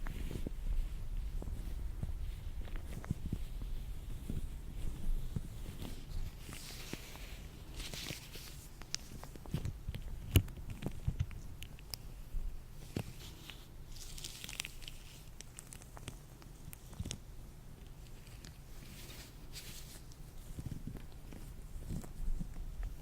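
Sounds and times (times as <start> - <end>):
gloved hands rubbing and crinkling: 0.0 - 23.0.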